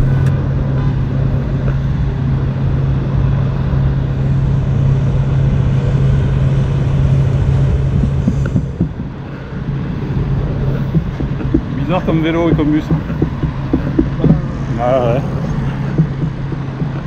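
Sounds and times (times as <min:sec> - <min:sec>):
car engine idling: 0:00.0 - 0:17.0
street traffic: 0:00.0 - 0:17.0.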